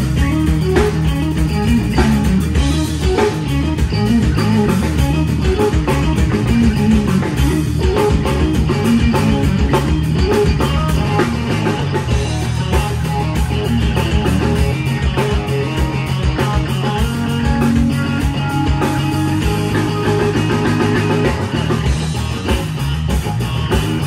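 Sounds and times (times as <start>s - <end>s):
drum kit: 0.0s - 24.0s
electric bass: 0.0s - 24.0s
electric guitar: 0.0s - 24.0s.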